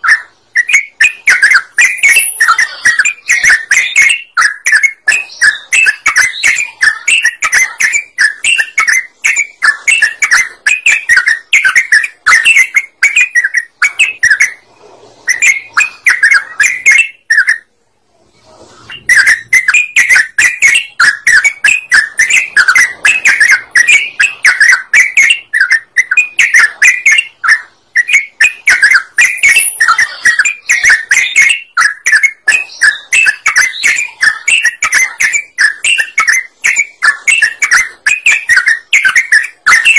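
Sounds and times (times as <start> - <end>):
bird singing bubbly chirps: 0.0 - 14.6, 15.3 - 17.7, 18.9 - 39.9.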